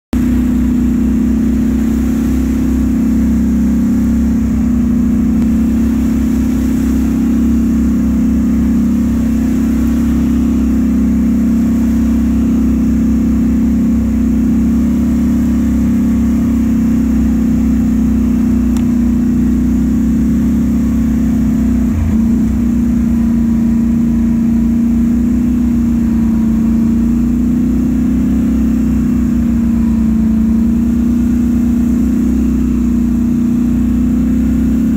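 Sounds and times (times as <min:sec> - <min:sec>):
utility vehicle engine drone: 0:00.1 - 0:34.9.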